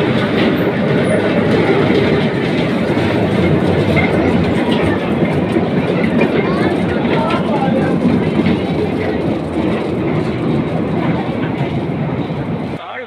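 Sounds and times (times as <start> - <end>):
train wheels rumbling on track: 0.0 - 12.8.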